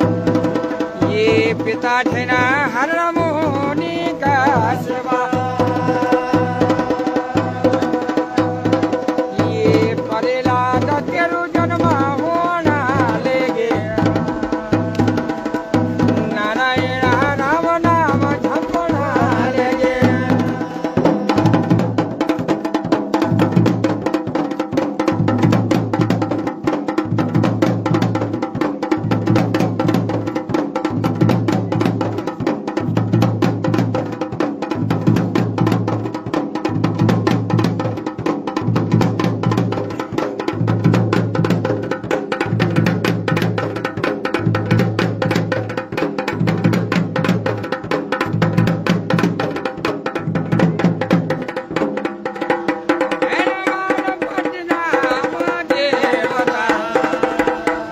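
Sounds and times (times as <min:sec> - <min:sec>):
deep drum beat: 0:00.0 - 0:57.9
drums playing fast strokes: 0:00.0 - 0:57.9.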